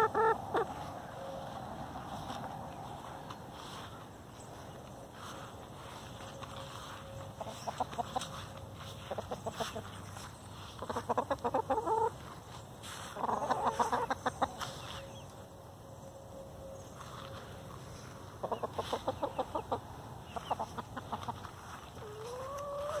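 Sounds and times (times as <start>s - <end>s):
hens clucking: 0.0s - 15.5s, 17.1s - 23.0s.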